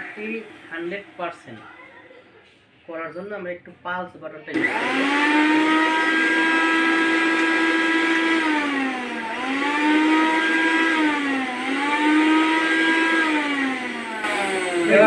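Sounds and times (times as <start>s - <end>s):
mixer grinder motor whining: 0.0s - 1.7s, 4.5s - 15.0s.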